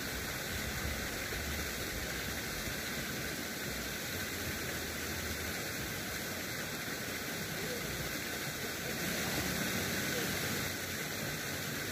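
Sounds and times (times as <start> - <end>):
steady background hiss: 0.0 - 11.9.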